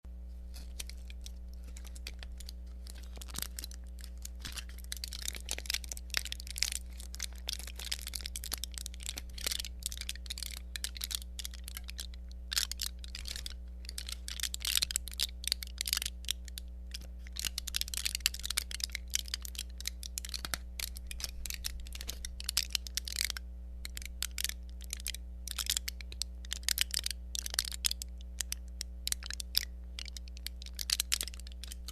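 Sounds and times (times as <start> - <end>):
low steady hum: 0.1 - 31.9
thin tin crackling and popping: 0.4 - 31.9.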